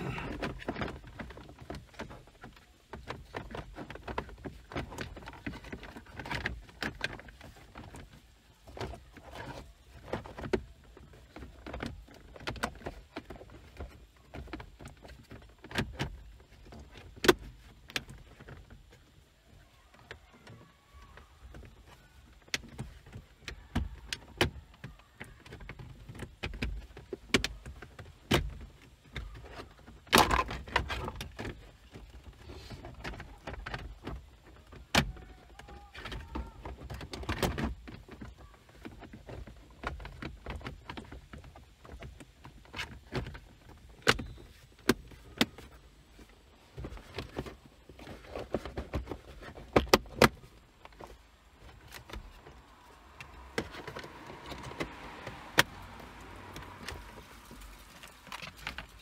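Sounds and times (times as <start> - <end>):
clicks and taps on plastic trim: 0.0 - 59.0.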